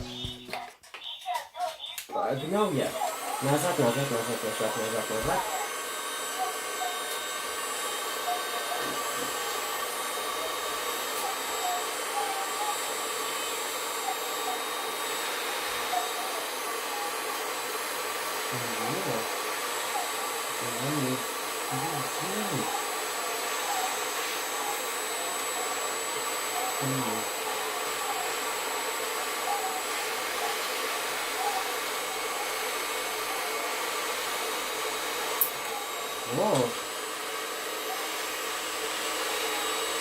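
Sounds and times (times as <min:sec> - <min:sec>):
hot-air blower running: 0:00.0 - 0:00.6, 0:02.2 - 0:40.0.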